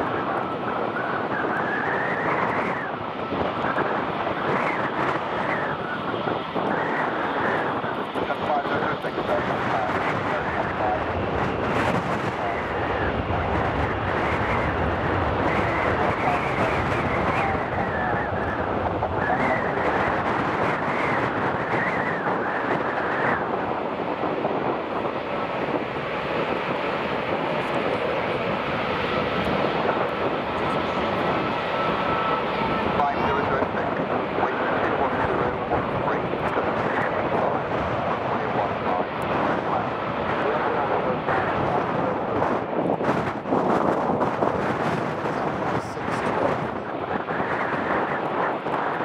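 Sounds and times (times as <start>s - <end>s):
jet engine whine: 0.0s - 49.0s
jet engines at takeoff power: 0.0s - 49.0s
wind buffeting microphone: 0.0s - 49.0s.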